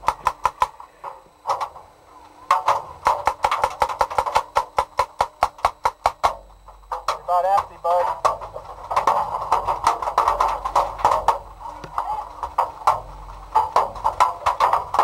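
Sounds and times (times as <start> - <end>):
paintball guns popping: 0.0 - 1.8, 2.5 - 15.0.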